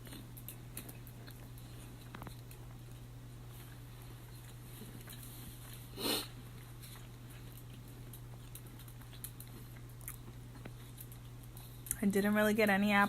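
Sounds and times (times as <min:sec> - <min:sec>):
small crackles: 0:00.0 - 0:12.1
chewing pie: 0:00.0 - 0:13.0
steady low hum: 0:00.0 - 0:13.0.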